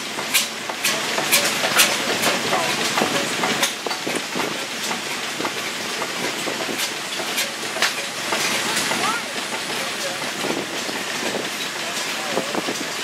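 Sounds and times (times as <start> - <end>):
stationary engine clattering: 0.0 - 13.0.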